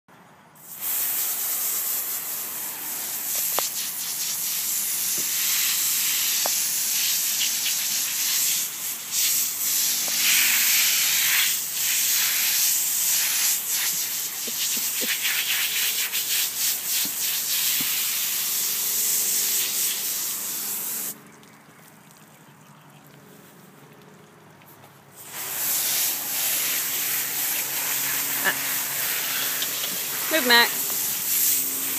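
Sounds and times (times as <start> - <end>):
hose spraying water: 0.6 - 21.2, 25.0 - 31.9.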